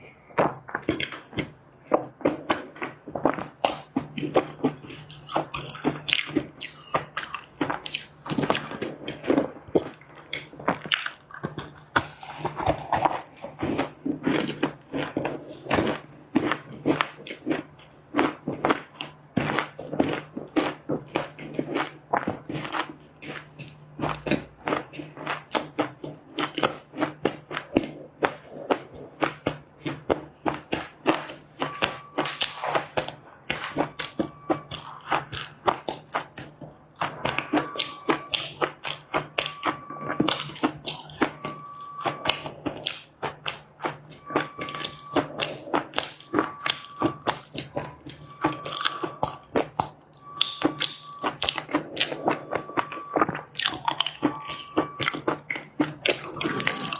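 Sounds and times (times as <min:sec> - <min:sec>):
chewing dry clay crunching: 0:00.0 - 0:56.9.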